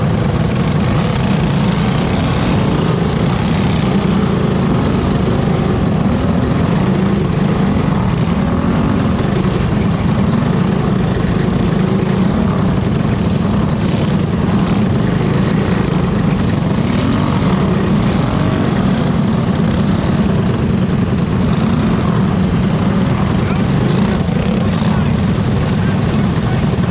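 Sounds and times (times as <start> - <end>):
motorcycle engines droning: 0.0 - 26.9.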